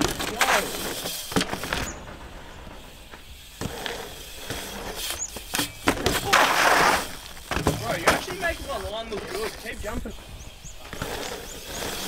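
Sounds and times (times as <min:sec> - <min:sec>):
bike knocks: 0:00.0 - 0:12.0
bike tyres rolling over dirt: 0:00.0 - 0:12.0.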